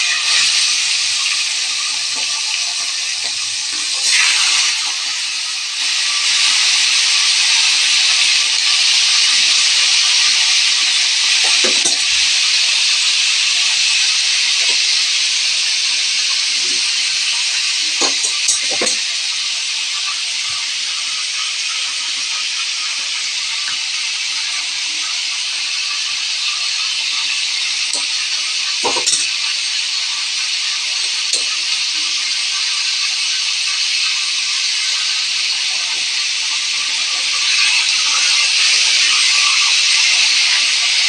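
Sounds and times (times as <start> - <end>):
meat sizzling in oil: 0.0 - 41.0.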